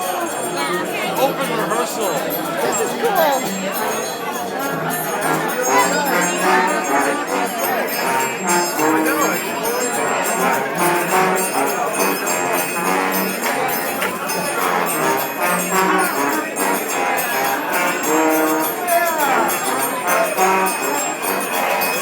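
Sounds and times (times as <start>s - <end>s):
trombones playing a tune: 3.4s - 22.0s.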